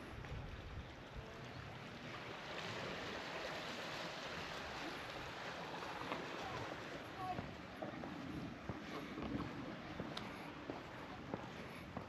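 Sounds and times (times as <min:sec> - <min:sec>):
sea surf washing in: 0:01.6 - 0:11.8.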